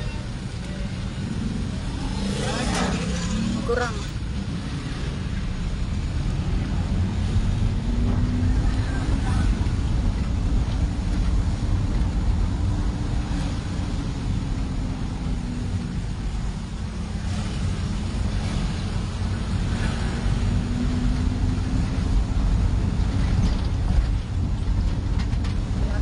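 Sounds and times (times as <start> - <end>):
road noise rumble inside car: 0.0 - 26.0.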